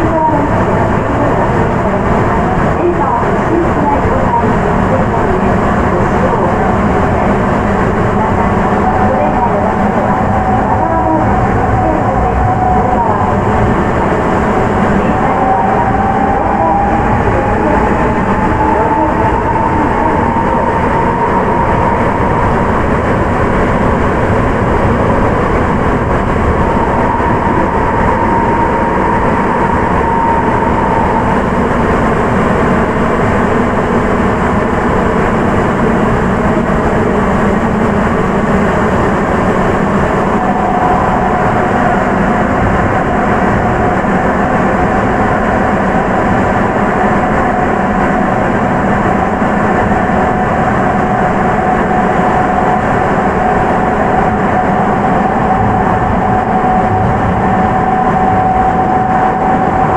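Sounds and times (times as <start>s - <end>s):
train running roar: 0.0s - 59.9s.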